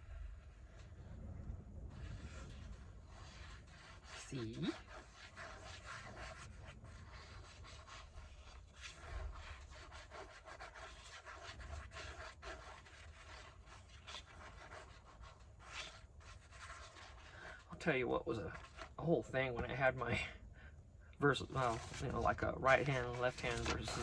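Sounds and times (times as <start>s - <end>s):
paper rubbing and scratching: 1.9s - 19.7s, 21.4s - 24.0s.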